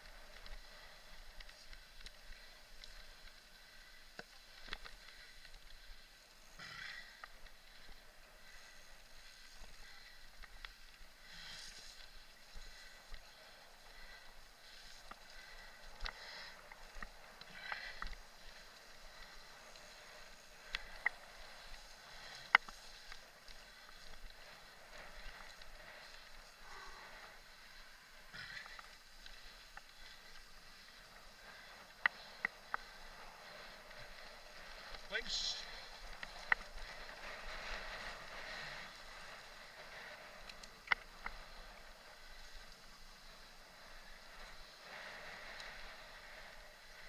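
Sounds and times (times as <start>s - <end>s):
bike clicks and rattles: 0.0s - 47.0s
bike tyre hissing on dirt: 0.0s - 47.0s.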